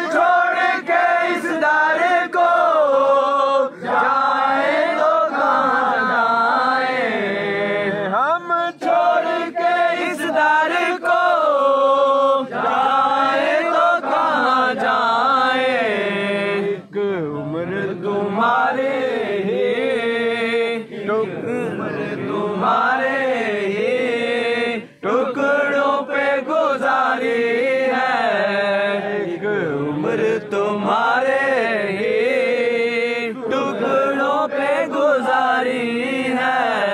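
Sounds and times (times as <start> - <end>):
men singing devotional song: 0.0 - 36.9.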